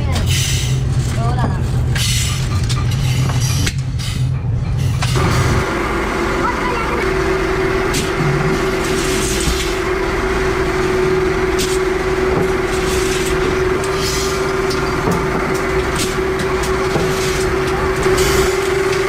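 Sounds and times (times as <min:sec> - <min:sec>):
workshop machinery humming: 0:01.7 - 0:19.0.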